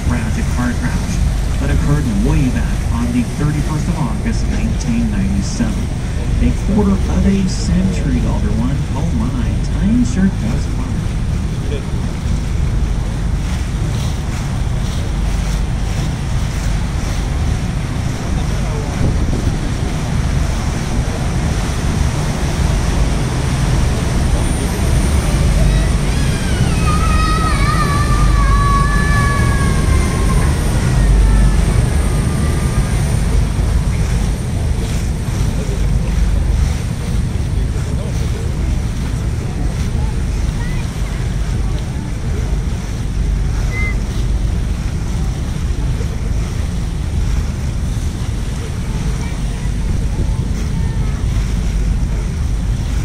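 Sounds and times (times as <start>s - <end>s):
boat engine rumble: 0.0s - 53.0s
water noise: 0.0s - 53.0s
wind buffeting microphone: 0.0s - 53.0s.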